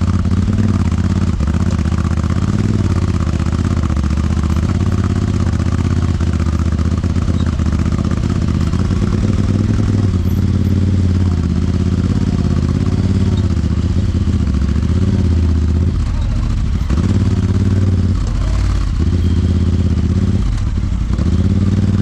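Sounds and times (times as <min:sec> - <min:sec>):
engine running at low revs: 0:00.0 - 0:22.0.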